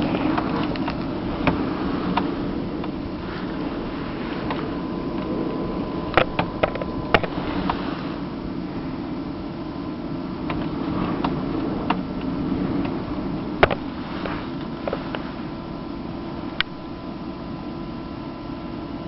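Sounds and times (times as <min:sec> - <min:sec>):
snowstorm with rain rushing: 0:00.0 - 0:19.0.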